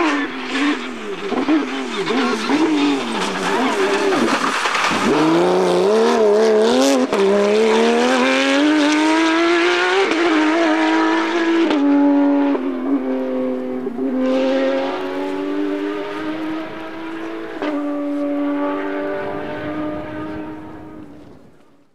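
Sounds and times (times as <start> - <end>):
rally car engine at full throttle: 0.0 - 21.8.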